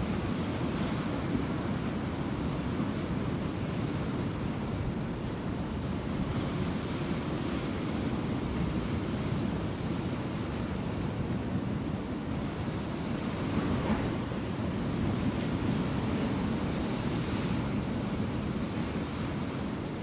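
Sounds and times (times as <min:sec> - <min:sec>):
sea waves: 0:00.0 - 0:20.0
wind: 0:00.0 - 0:20.0.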